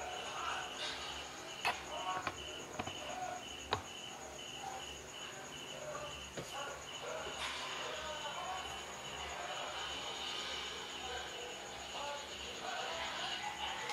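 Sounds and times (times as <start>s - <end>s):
cricket chirping: 0.0s - 13.9s.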